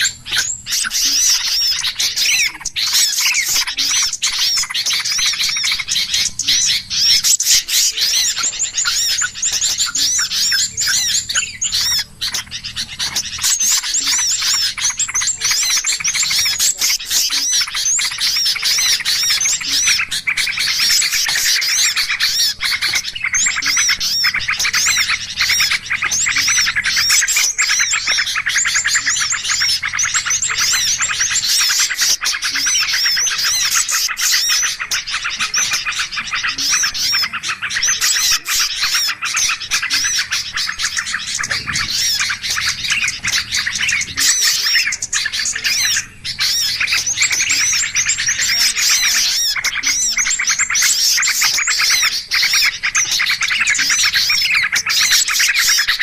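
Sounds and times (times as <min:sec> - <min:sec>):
songbird flock chirping: 0:00.0 - 0:56.0.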